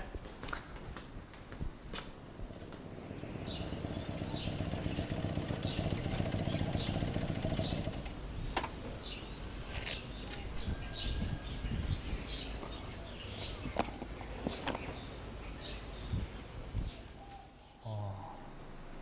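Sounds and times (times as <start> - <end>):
small engine rumbling: 0.0 - 16.4, 17.8 - 19.0
birds chirping: 0.0 - 19.0.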